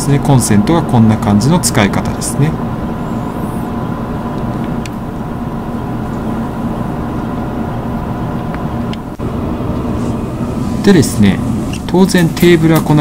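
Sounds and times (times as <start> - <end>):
electric train equipment hum: 0.0 - 13.0.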